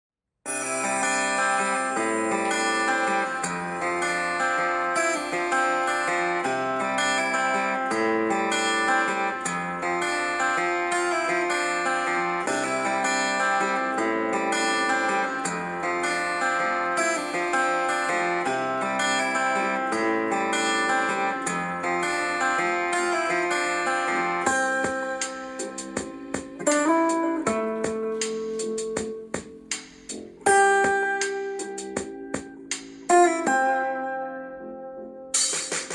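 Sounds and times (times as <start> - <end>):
strummed guitar chords: 0.5 - 35.9.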